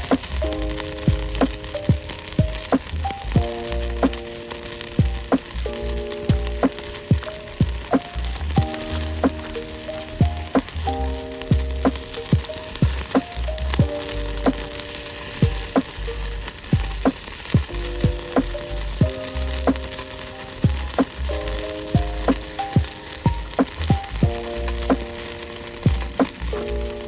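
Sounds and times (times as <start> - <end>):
background music with bass: 0.0 - 4.3, 5.0 - 6.8, 7.6 - 14.8, 15.4 - 20.0, 20.6 - 25.2, 25.9 - 27.0.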